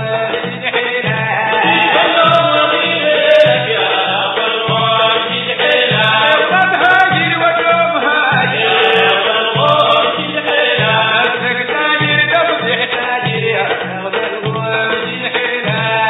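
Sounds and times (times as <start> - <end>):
frame drums beating: 0.0 - 16.0
men singing a chant together: 0.0 - 16.0.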